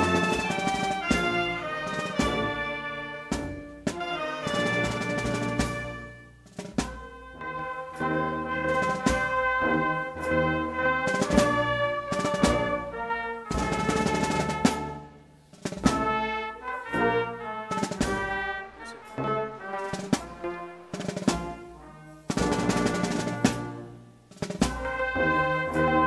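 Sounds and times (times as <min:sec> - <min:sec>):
drum strokes: 0:00.0 - 0:26.0
held brass chords: 0:00.0 - 0:26.0.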